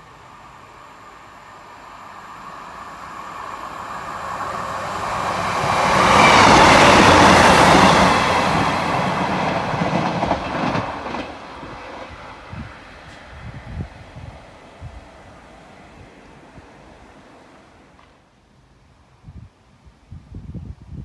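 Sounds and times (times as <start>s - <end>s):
diesel train passing: 0.0s - 18.8s.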